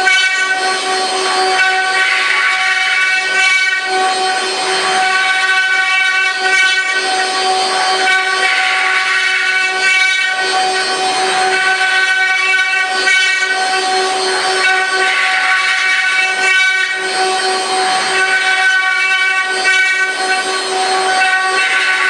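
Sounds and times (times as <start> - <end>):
router spindles whining: 0.0 - 22.0.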